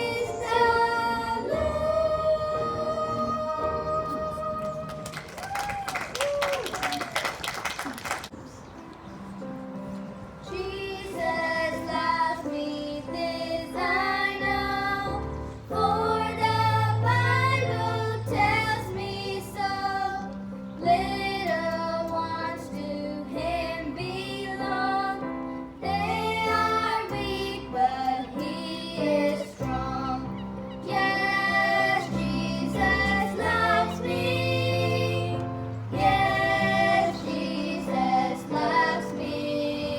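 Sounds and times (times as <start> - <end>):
high solo voice singing gospel: 0.0 - 5.6, 10.5 - 39.9.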